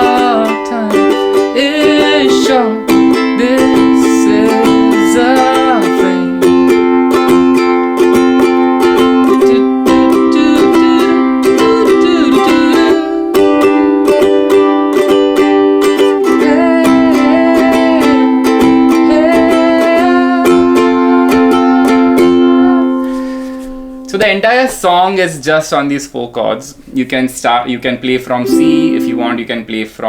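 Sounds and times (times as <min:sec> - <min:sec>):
person singing: 0:00.0 - 0:24.0, 0:28.4 - 0:29.6
ukulele strumming: 0:00.0 - 0:24.3, 0:28.4 - 0:29.9.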